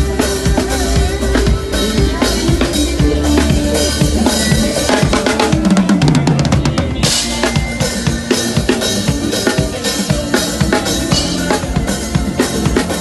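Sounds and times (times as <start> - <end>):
bass guitar: 0.0 - 13.0
drum kit groove: 0.0 - 13.0.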